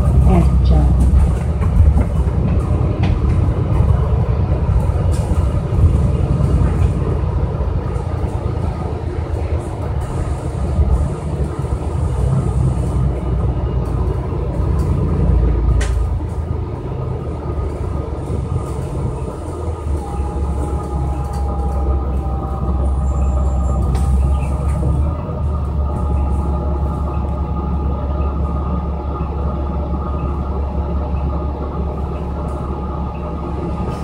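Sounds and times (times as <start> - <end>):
bus engine and tyres rumbling: 0.0 - 34.0.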